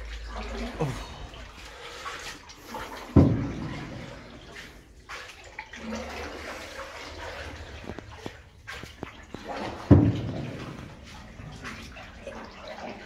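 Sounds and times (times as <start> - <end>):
water splashing around canoe: 0.0 - 13.0.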